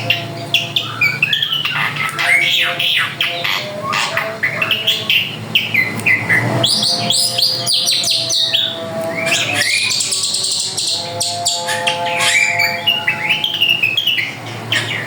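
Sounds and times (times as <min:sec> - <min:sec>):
bird singing: 0:00.0 - 0:15.0.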